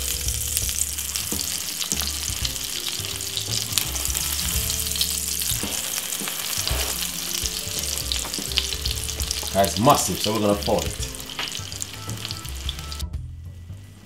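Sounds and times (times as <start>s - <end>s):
egg sizzling in oil: 0.0s - 13.0s.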